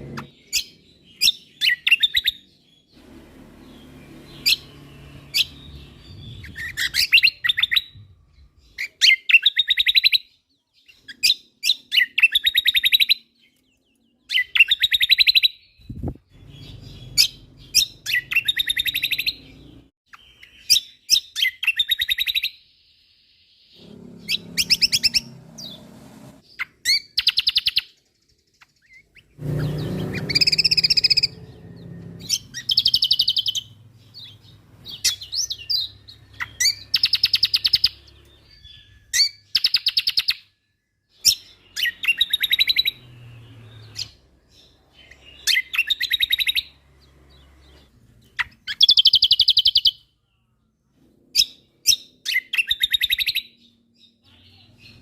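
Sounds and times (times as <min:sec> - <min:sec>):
songbird singing chattering trills: 0:00.0 - 0:25.8, 0:26.4 - 0:50.6.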